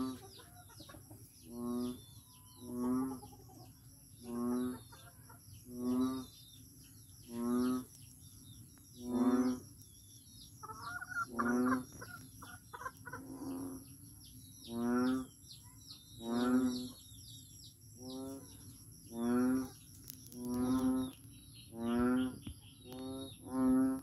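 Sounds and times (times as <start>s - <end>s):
frog croaking: 0.0s - 6.5s, 7.2s - 8.0s, 8.9s - 9.8s, 10.4s - 13.9s, 14.6s - 15.4s, 16.1s - 17.1s, 17.9s - 24.0s
birds chirping: 0.0s - 24.0s
insect high whine: 1.2s - 24.0s.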